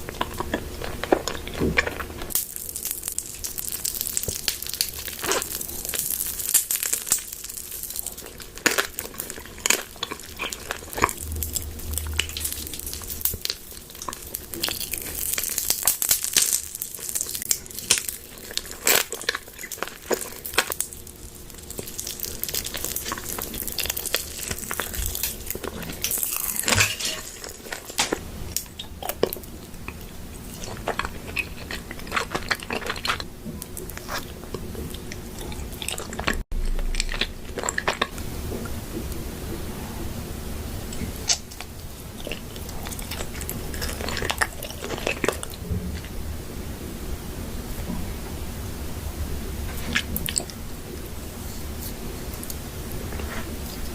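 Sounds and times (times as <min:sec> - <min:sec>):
person chewing crunchy food: 0:00.0 - 0:38.9, 0:40.9 - 0:46.2, 0:49.6 - 0:53.9.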